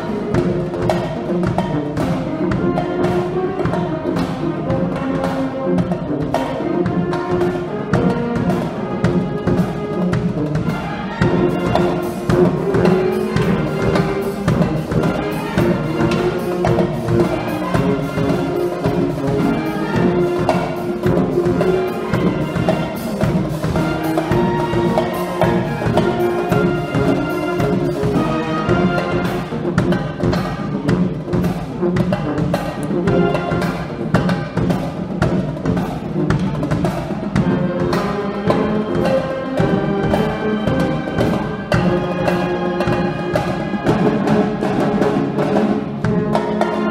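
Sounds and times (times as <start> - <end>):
brass band sustained chords: 0.0 - 46.9
drum kit beat: 0.0 - 46.9.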